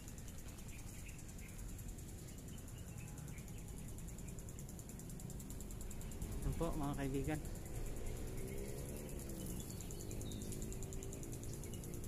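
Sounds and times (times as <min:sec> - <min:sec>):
faint chirps: 0:00.0 - 0:12.0
insects trilling: 0:00.0 - 0:12.0
low background rumble: 0:00.0 - 0:12.0.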